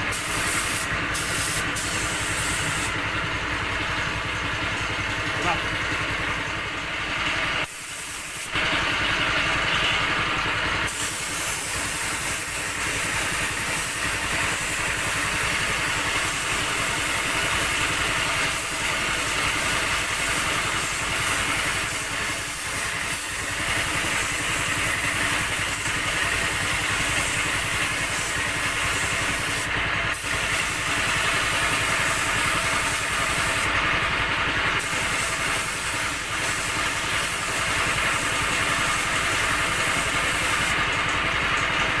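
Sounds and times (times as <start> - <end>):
air compressor running: 0.0 - 42.0.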